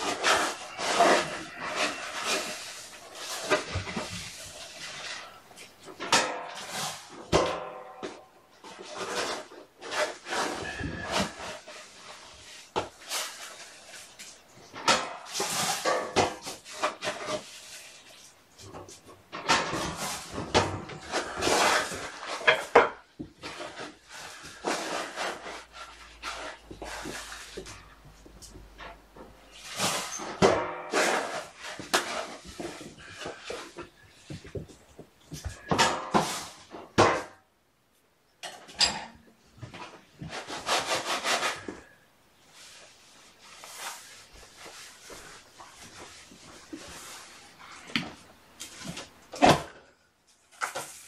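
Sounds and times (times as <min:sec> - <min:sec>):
cat litter scooping and scraping: 0:00.0 - 0:37.0, 0:39.6 - 0:51.0.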